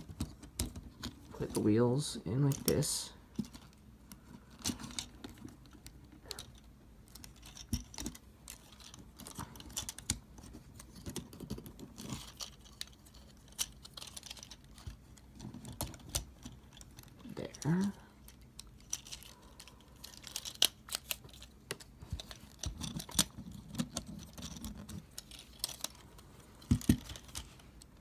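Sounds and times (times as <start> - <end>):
plastic toy parts clicking: 4.5 - 26.0, 26.6 - 27.9.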